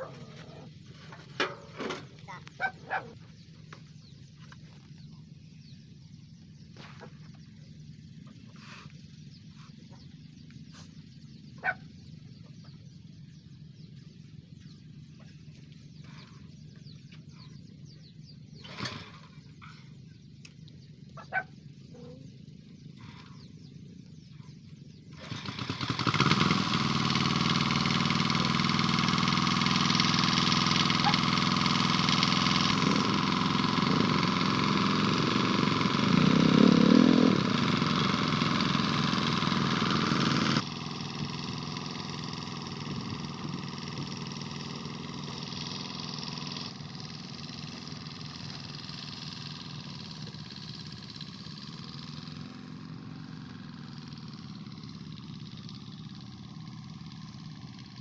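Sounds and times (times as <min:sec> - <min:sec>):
walking tractor engine running: 0:00.0 - 0:58.0.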